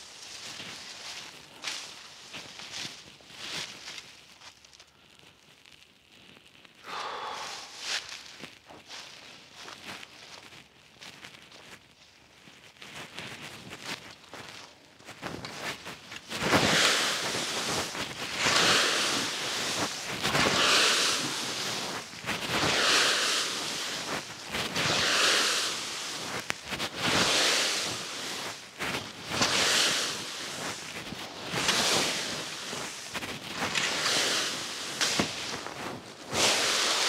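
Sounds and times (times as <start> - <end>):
rake dragging through dry leaves: 0.0 - 4.9, 6.3 - 37.0.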